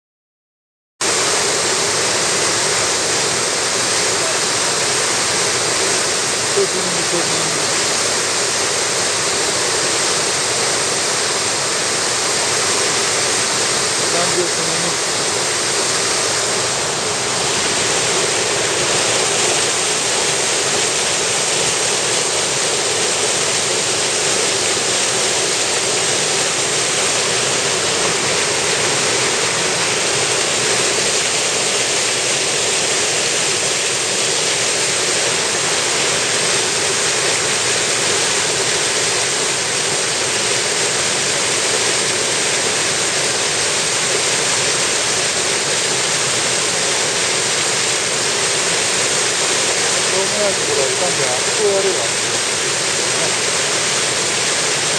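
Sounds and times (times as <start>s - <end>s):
stream rushing over rocks: 1.0s - 54.9s.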